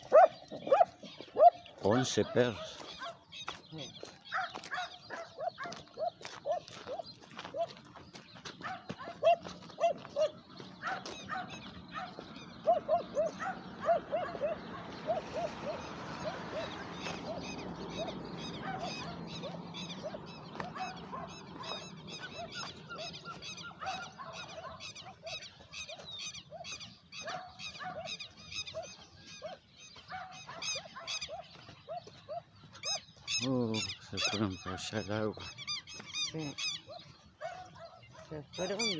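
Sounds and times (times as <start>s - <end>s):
dogs barking: 0.0s - 7.9s, 8.5s - 38.9s
birds calling: 0.0s - 38.9s.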